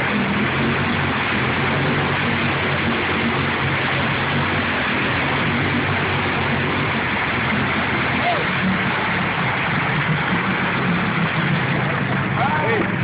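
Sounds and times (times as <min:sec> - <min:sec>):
engine at high throttle: 0:00.0 - 0:13.0
wheels spinning in mud: 0:00.0 - 0:13.0.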